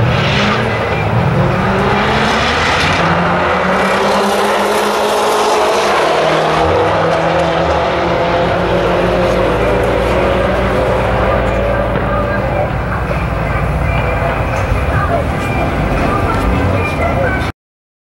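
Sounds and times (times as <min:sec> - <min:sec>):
drag cars accelerating: 0:00.0 - 0:17.5.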